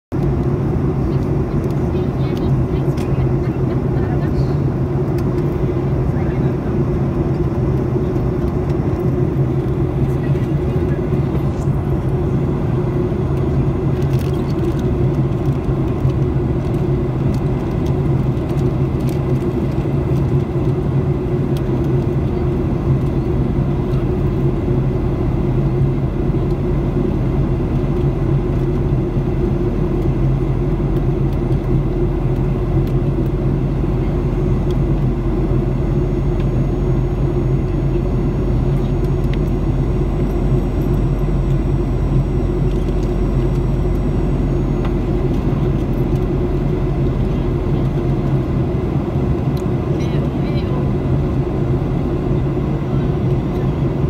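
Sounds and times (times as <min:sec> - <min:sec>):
airplane cabin engine drone: 0:00.1 - 0:54.0
low even hum: 0:00.2 - 0:54.0.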